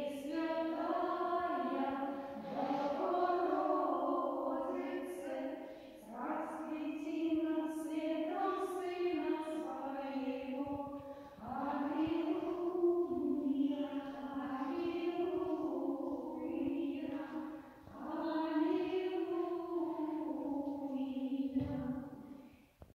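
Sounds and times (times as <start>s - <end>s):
small choir chanting: 0.0s - 22.4s.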